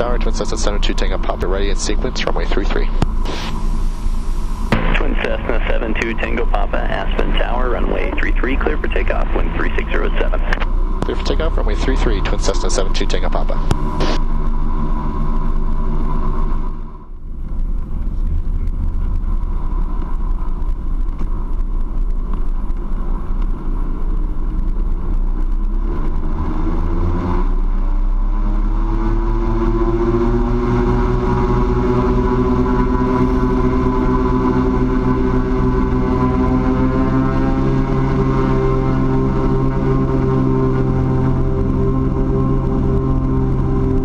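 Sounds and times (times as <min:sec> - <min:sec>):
propeller plane engines running: 0:00.0 - 0:44.0.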